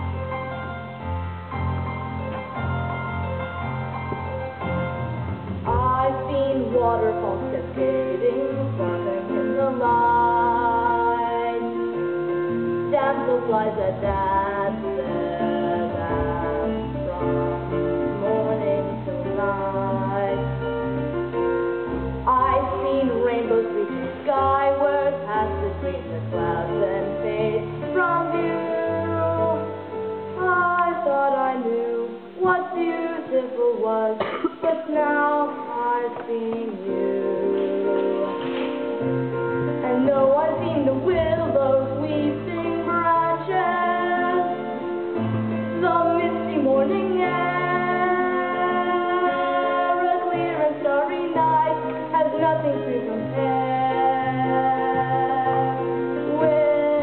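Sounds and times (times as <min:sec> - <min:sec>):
instrumental accompaniment: 0:00.0 - 0:57.0
woman singing a slow ballad: 0:05.7 - 0:12.0, 0:12.9 - 0:21.0, 0:22.2 - 0:38.6, 0:39.8 - 0:45.0, 0:45.7 - 0:57.0.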